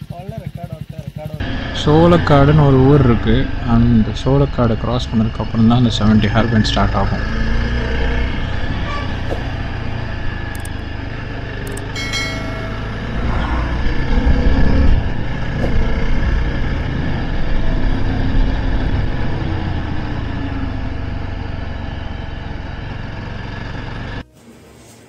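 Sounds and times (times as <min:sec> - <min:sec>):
motorcycle engine running: 0:00.0 - 0:24.2
wind and road noise: 0:01.4 - 0:24.2
bus passing: 0:01.4 - 0:25.0.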